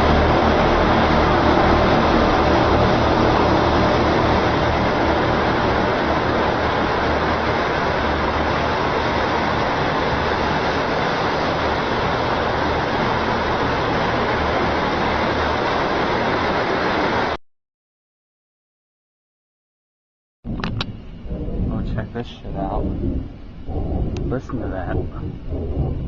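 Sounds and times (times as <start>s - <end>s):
rumbling roar: 0.0s - 16.6s, 20.5s - 26.0s
low droning hum: 0.0s - 17.4s, 20.4s - 26.0s.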